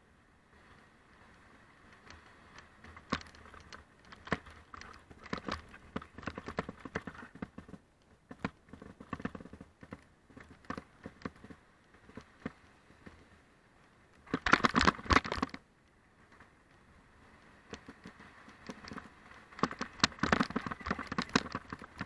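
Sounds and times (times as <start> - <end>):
bike rattling over gravel: 1.9 - 22.0.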